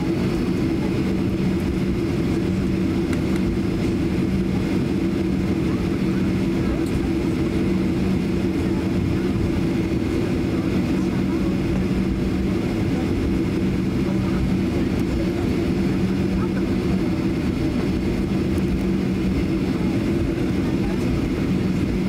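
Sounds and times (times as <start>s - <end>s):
jet engines droning in cabin: 0.0s - 22.0s.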